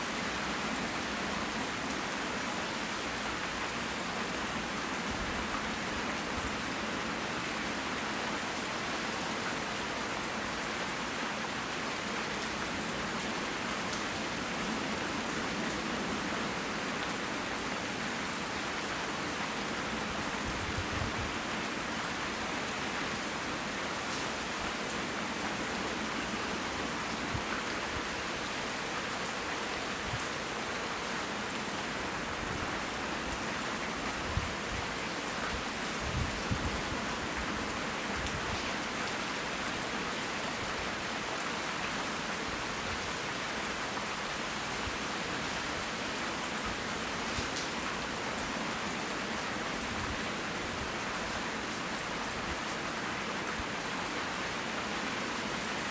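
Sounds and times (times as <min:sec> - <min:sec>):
steady rain hissing: 0:00.0 - 0:55.9.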